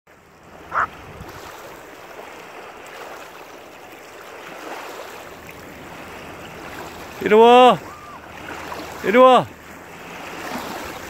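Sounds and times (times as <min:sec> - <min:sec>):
light wind: 0:00.1 - 0:11.0
waves lapping on pebble shore: 0:00.3 - 0:11.0.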